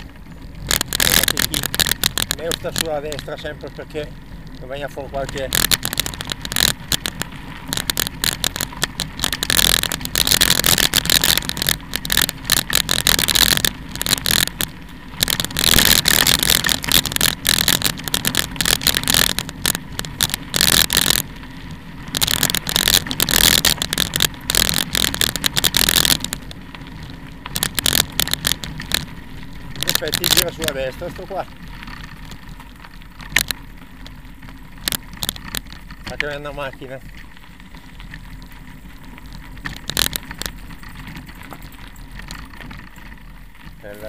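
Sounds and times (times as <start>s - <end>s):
tyres crunching on gravel: 0.0s - 44.0s.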